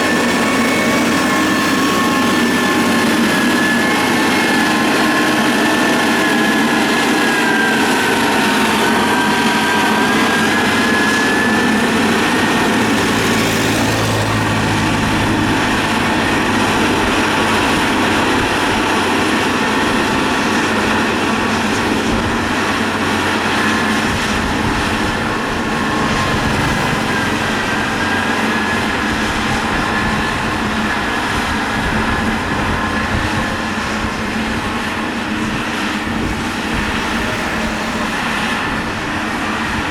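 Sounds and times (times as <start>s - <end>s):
diesel engine running under load: 0.0s - 39.9s
high whine drifting in pitch: 0.0s - 39.9s.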